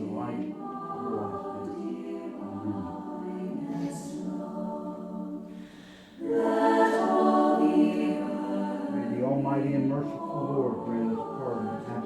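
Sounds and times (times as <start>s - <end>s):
voices chanting prayer: 0.0s - 5.6s, 6.2s - 12.0s.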